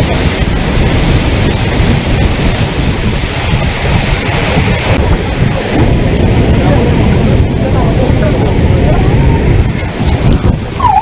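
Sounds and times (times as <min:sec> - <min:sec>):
floodwater rushing: 0:00.0 - 0:11.0
wind buffeting microphone: 0:00.0 - 0:11.0.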